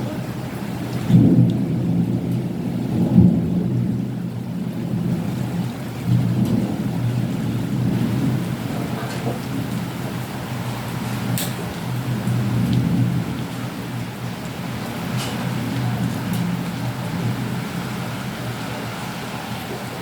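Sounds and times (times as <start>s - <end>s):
low thunder rumbling: 0.0s - 20.0s
rain falling: 0.0s - 20.0s.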